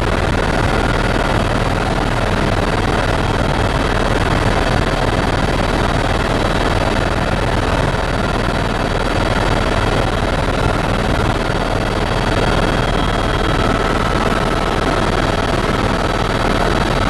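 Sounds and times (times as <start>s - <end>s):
helicopter rotor and engine cabin noise: 0.0s - 17.0s.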